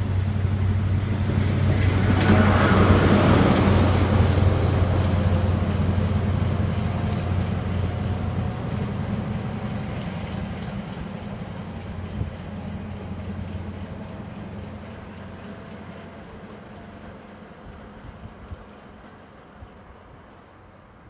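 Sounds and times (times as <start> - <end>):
diesel train drone: 0.0 - 21.0
rumble of train coaches: 0.0 - 21.0.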